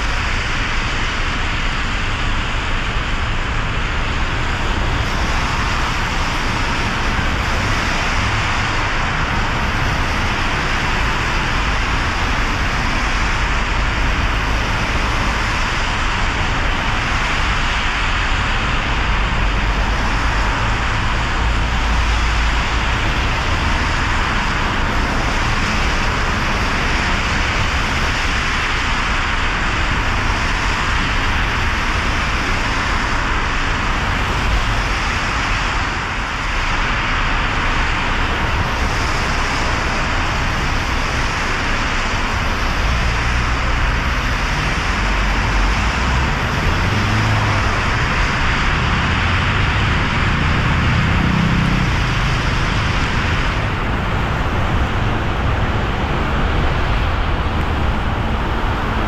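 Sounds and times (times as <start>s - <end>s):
low engine and road rumble: 0.0s - 59.0s
rain and tyres on wet road: 0.0s - 59.0s.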